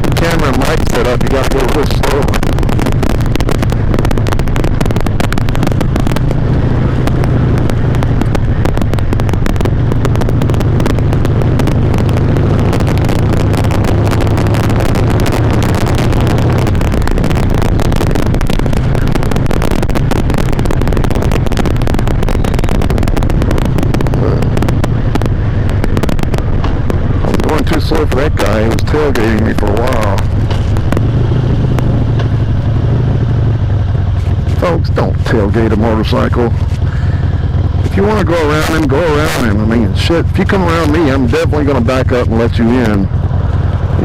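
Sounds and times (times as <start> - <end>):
distortion crackle: 0.0 - 44.0
motorcycle engine running: 0.0 - 44.0.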